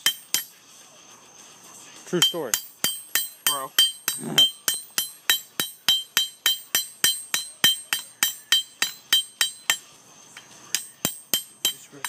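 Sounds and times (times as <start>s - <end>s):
hammer ringing on steel anvil: 0.0s - 0.5s, 2.2s - 12.0s.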